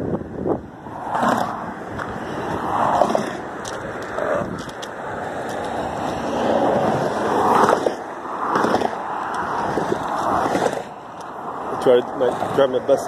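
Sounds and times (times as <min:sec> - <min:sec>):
cars passing at highway speed: 0:00.0 - 0:13.0.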